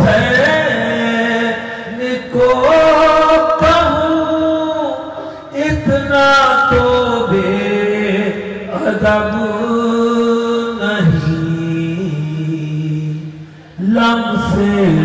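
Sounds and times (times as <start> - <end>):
man singing devotional verse: 0.0 - 15.0.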